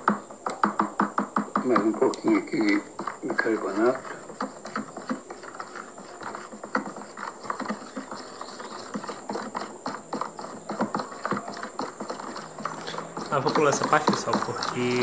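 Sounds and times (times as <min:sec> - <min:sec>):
utensil scraping plastic tub: 0:00.0 - 0:15.0.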